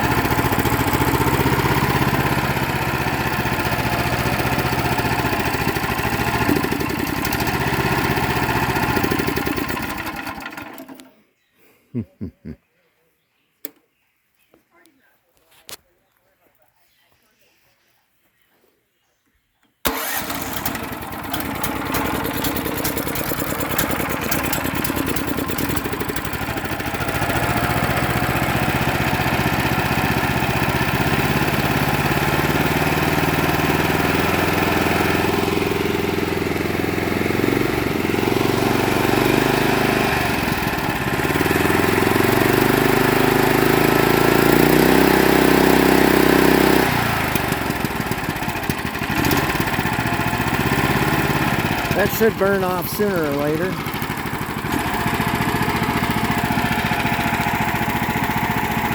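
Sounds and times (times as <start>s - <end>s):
small gasoline engine running: 0.0s - 11.1s, 19.8s - 58.9s.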